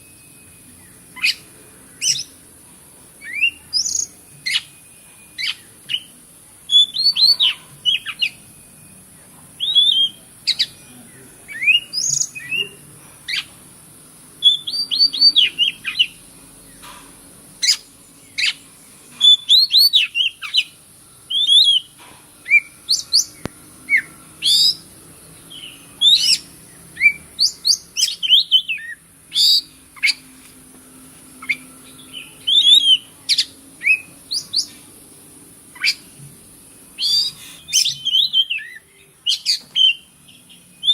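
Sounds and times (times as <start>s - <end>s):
songbird whistling: 0.0s - 2.4s, 3.2s - 9.0s, 9.6s - 10.9s, 11.5s - 13.5s, 14.4s - 16.8s, 17.6s - 18.6s, 19.2s - 24.9s, 25.5s - 30.3s, 31.4s - 34.8s, 35.7s - 36.2s, 37.0s - 40.9s
steady high-pitched hiss: 0.0s - 40.9s.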